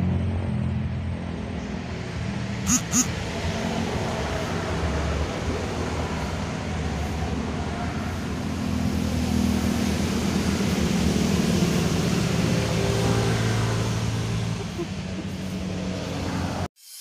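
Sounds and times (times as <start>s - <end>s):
low engine drone: 0.0s - 16.7s.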